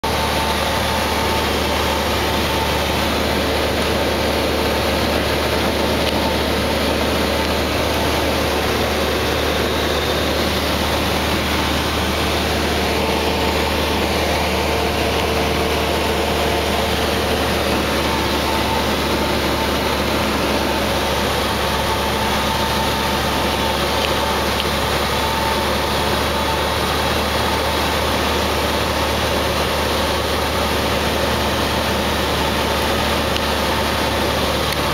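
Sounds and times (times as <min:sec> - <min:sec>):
airplane engine and propeller drone: 0:00.0 - 0:34.9.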